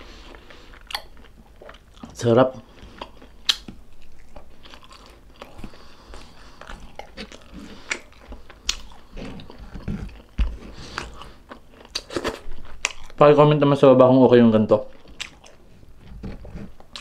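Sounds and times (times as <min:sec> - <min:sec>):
person chewing wet food: 0:00.0 - 0:13.3, 0:14.8 - 0:17.0.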